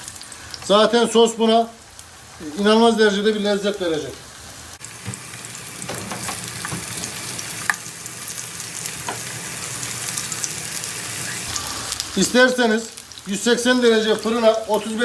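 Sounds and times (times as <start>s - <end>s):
zucchini sizzling in oil: 0.0s - 15.0s.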